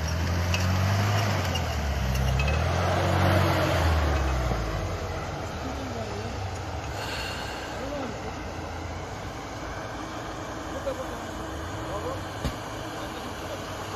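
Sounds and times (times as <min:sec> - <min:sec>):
car engine under load: 0:00.0 - 0:13.9.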